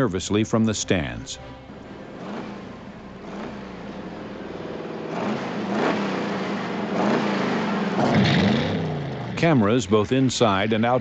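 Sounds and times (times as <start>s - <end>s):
car engine revving: 1.6s - 11.0s.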